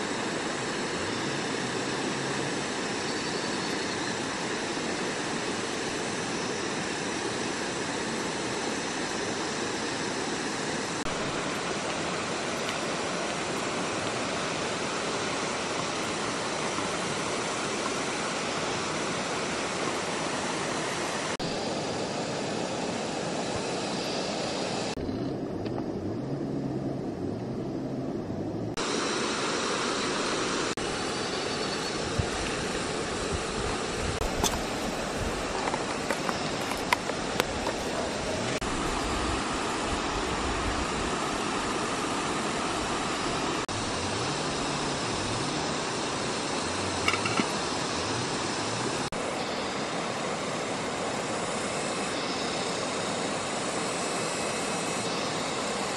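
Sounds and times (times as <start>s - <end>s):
river rushing over rocks: 0.0s - 25.0s, 32.6s - 55.9s.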